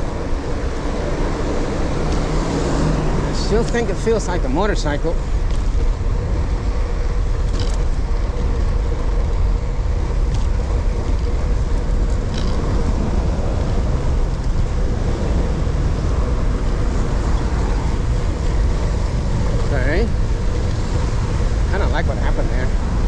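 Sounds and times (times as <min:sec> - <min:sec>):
road and traffic noise: 0:00.0 - 0:23.0
wind buffeting microphone: 0:00.0 - 0:23.0.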